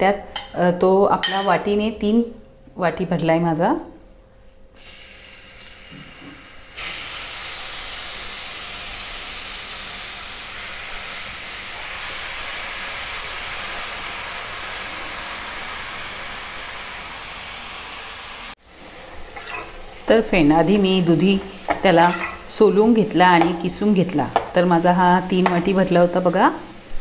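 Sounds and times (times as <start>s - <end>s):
vegetables sizzling in hot fat: 4.8s - 27.0s.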